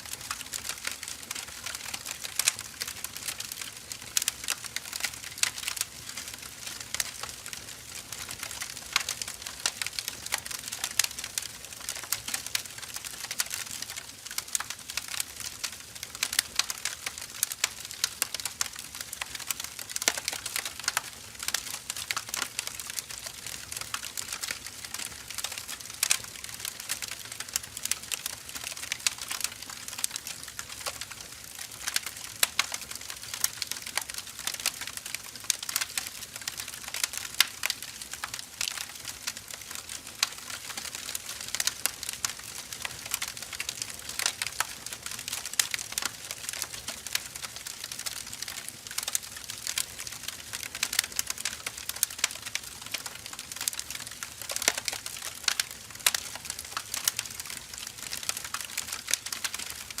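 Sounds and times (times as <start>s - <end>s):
burning wood crackling and snapping: 0.1s - 60.0s.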